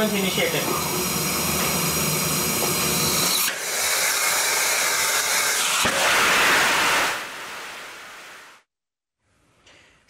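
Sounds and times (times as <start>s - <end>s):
rocket engine exhaust hiss: 0.0s - 8.6s.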